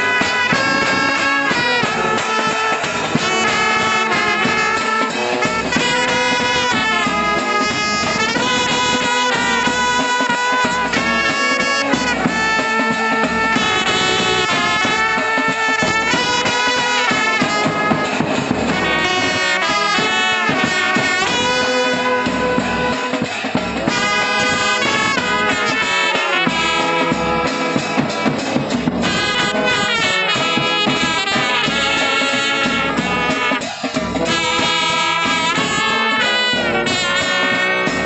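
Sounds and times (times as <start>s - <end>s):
drum and cymbals: 0.0s - 38.0s
trumpets playing melody: 0.0s - 38.0s.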